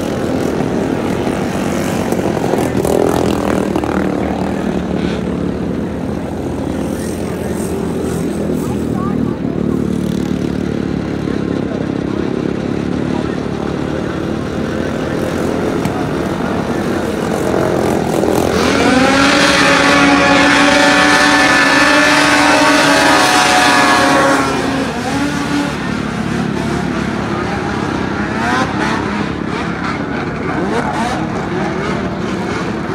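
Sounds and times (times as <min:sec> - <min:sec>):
snowmobile engines whining: 0:00.0 - 0:32.9.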